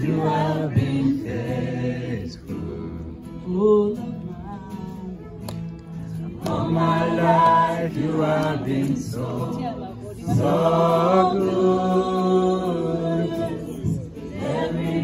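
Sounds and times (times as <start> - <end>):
voices singing worship song: 0.0 - 5.2, 6.0 - 15.0.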